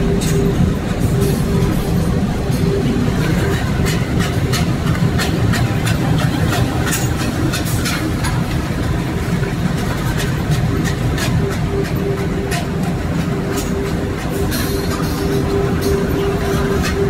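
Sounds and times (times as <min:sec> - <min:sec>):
machine clacking: 0:00.0 - 0:17.0
machine low rumble: 0:00.0 - 0:17.0.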